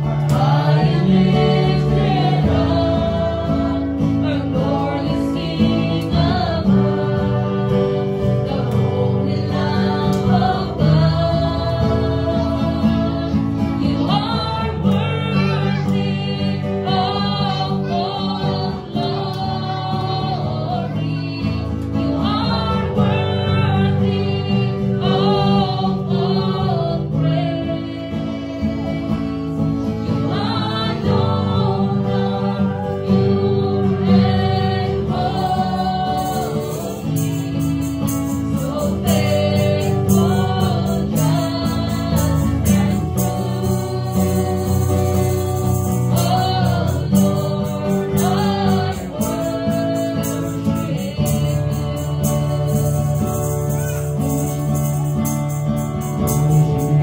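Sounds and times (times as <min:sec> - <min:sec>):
woman singing: 0:00.0 - 0:54.6
acoustic guitar: 0:00.0 - 0:57.0.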